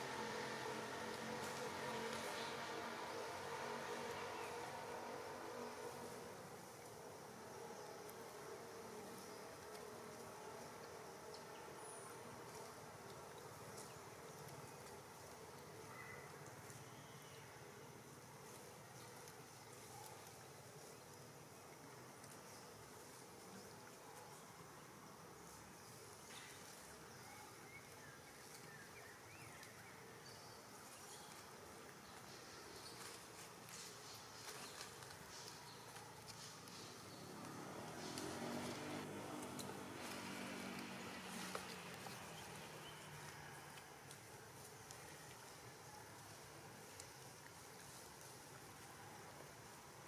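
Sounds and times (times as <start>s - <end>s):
thin insect hum: 0.0s - 50.0s.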